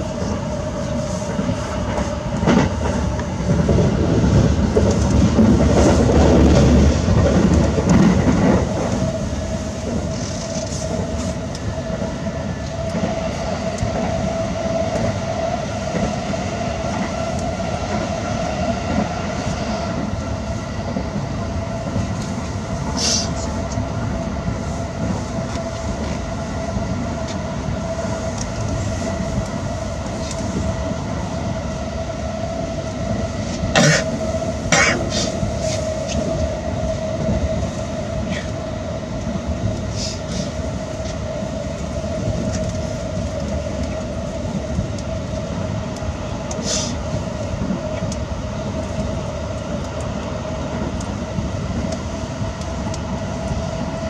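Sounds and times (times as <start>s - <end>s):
train cabin rumble and hum: 0.0s - 54.0s.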